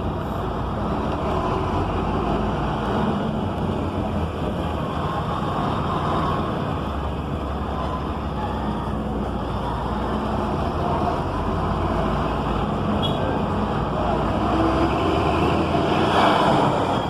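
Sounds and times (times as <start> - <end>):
bus engine droning: 0.0 - 17.0.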